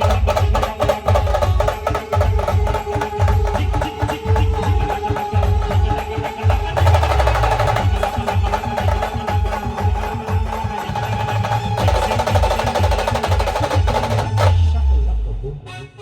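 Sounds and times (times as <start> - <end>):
fast busy drumming: 0.0 - 15.2
heavy bass drum beats: 0.0 - 15.6.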